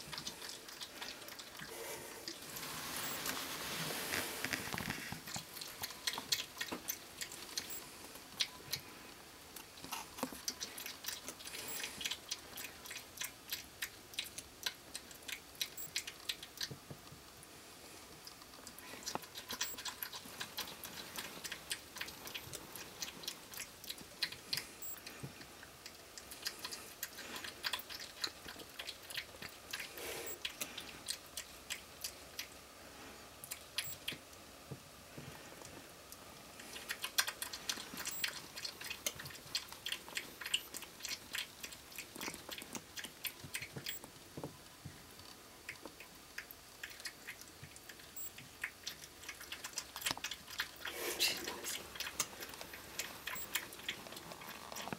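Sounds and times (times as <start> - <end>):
porcupine chewing corn: 0.0 - 54.9.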